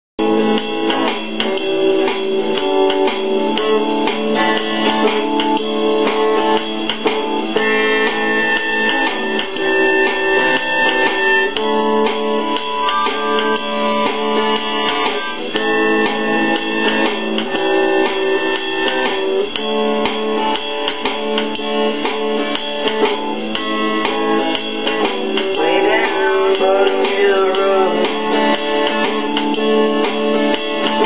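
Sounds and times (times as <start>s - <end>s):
guitar strumming chords: 0.2s - 31.0s.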